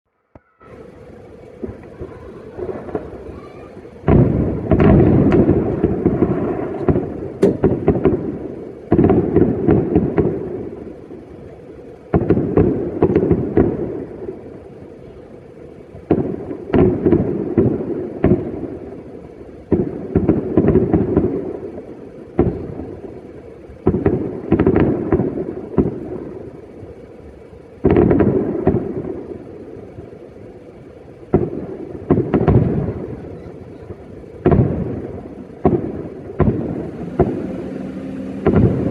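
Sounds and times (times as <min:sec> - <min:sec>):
crackling pops of fireworks: 0:00.3 - 0:38.9
fireworks booming: 0:00.3 - 0:38.9.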